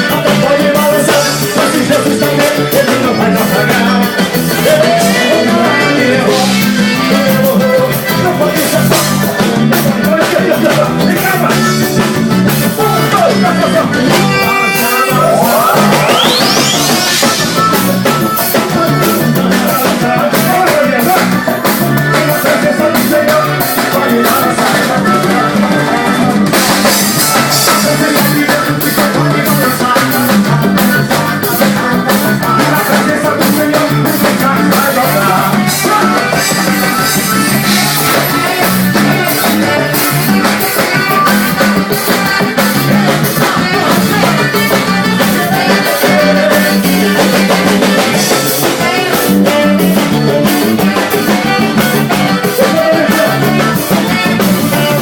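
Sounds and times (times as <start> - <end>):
band music with drums and guitar: 0.0 - 55.0.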